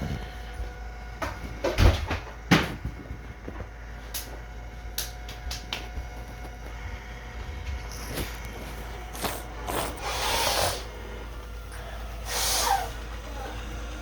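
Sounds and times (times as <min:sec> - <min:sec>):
robot vacuum humming: 0:00.0 - 0:14.0.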